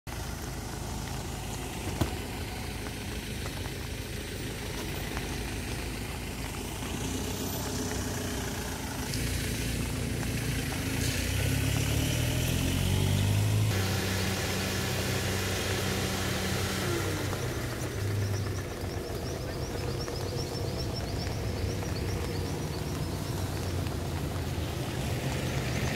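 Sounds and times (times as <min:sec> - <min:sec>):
vehicle engine idling: 0:00.1 - 0:25.9.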